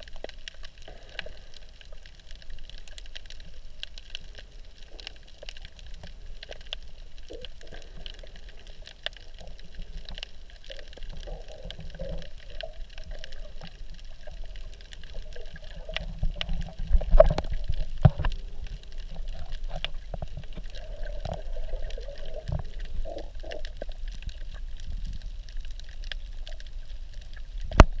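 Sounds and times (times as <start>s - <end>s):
small underwater clicks and crackles: 0.0s - 28.0s
underwater rumble of moving water: 0.0s - 28.0s.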